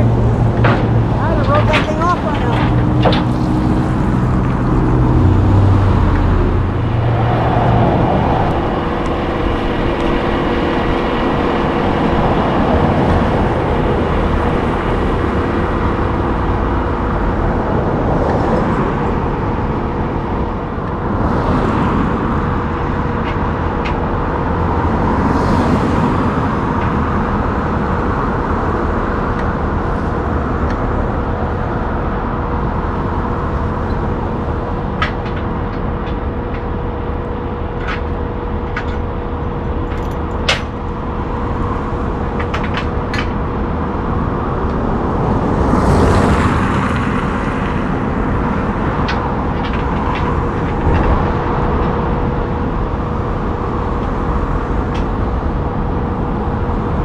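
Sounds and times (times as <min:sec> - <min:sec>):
diesel engine hum: 0:00.0 - 0:57.0
hydraulic whine: 0:00.0 - 0:57.0
metallic ramp noises: 0:00.0 - 0:57.0.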